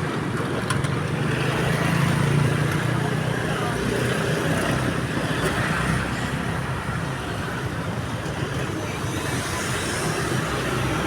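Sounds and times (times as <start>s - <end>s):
road traffic engine hum: 0.0s - 11.0s.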